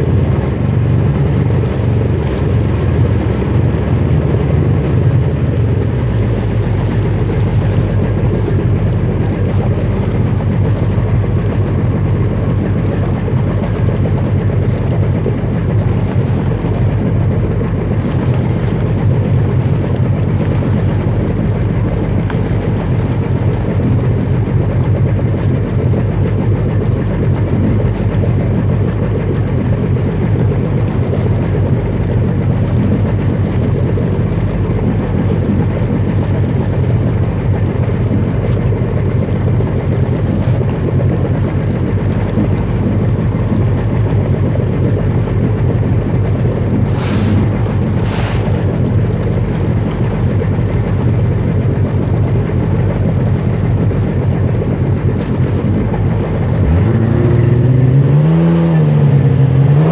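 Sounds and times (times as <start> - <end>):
water noise: 0.0 - 59.0
personal watercraft engine drone: 0.0 - 59.9.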